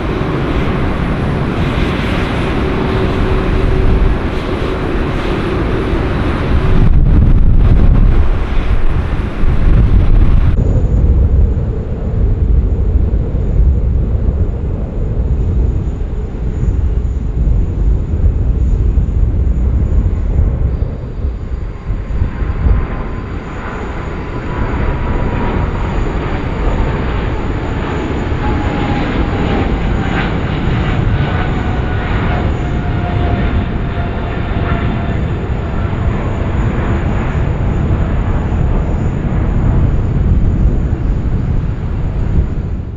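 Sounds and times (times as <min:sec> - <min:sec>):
jet engine whine: 0:00.0 - 0:42.9
jet engines roaring at takeoff: 0:00.0 - 0:42.9.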